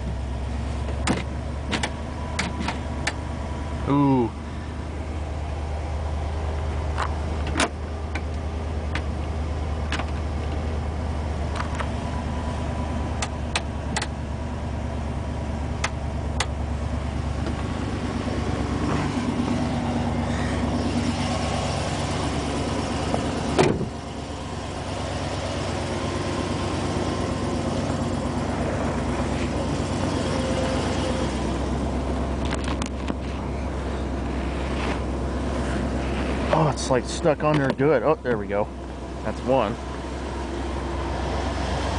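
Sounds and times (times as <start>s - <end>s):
truck engine idling: 0.0s - 41.9s.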